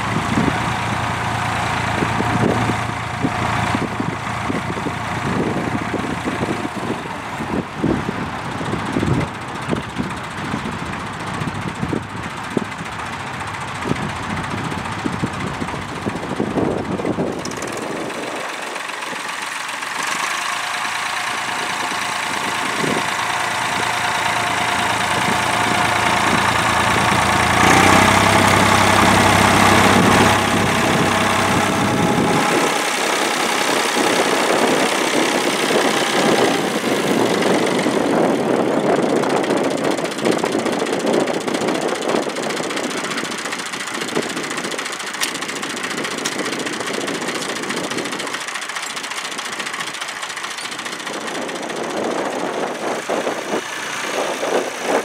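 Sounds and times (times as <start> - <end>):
engine rattle: 0.0 - 55.0
tractor engine running: 0.0 - 55.0.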